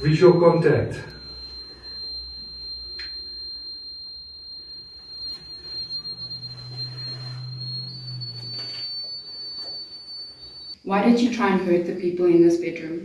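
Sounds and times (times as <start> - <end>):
low hum: 0.0 - 10.8
high-pitched electronic whine: 0.0 - 11.9.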